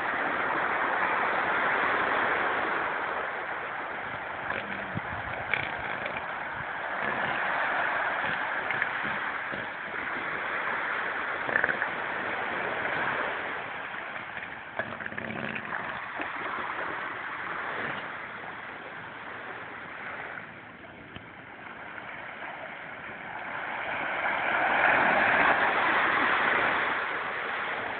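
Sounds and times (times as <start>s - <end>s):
surf washing on beach: 0.0s - 27.9s.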